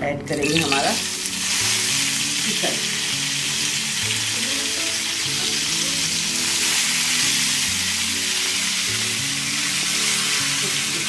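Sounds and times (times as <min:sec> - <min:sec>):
background music: 0:00.0 - 0:11.0
chicken sizzling in hot oil: 0:00.4 - 0:11.0.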